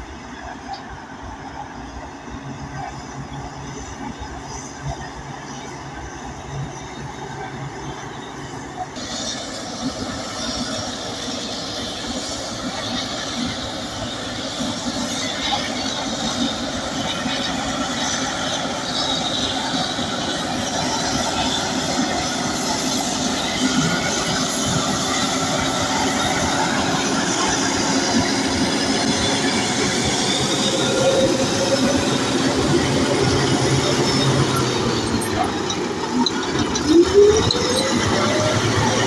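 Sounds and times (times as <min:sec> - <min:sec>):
bulldozer engine running: 0:00.0 - 0:39.0
steel tracks clanking and squealing: 0:00.0 - 0:39.0.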